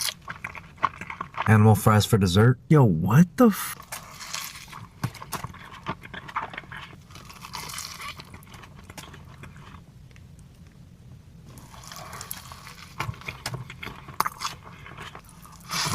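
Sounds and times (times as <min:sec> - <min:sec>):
wet eating sounds: 0:00.0 - 0:01.9, 0:03.7 - 0:10.8, 0:11.5 - 0:15.9.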